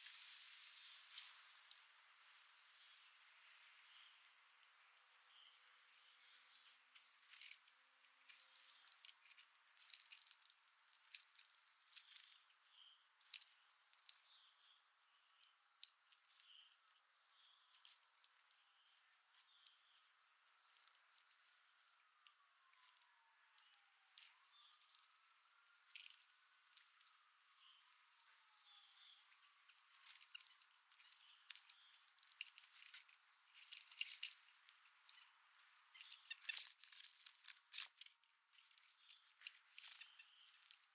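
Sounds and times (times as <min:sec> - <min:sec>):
songbirds chipping and calling: 0:00.0 - 0:40.9.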